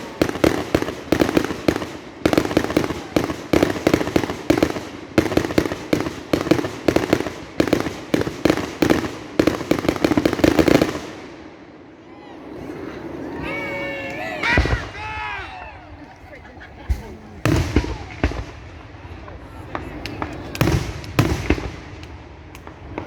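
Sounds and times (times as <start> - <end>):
fireworks barrage: 0.0 - 23.0.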